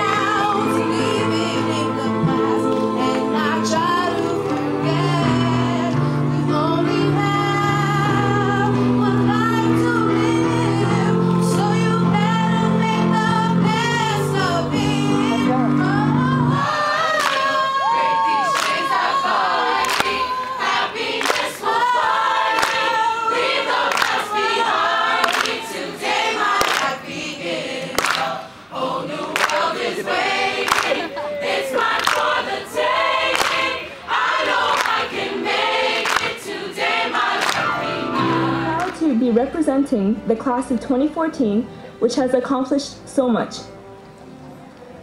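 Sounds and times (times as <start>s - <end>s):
mixed choir singing: 0.0s - 39.8s.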